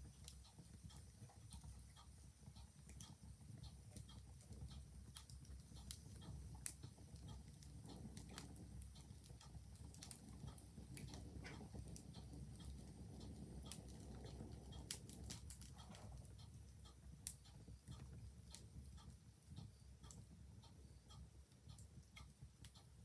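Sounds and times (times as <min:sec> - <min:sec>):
wood fire crackling: 0:00.0 - 0:20.5
clock ticking: 0:00.2 - 0:23.0.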